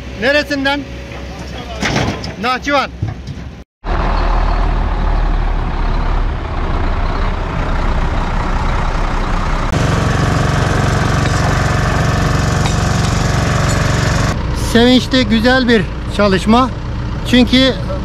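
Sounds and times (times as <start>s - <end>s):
diesel construction machinery running: 0.0s - 18.0s.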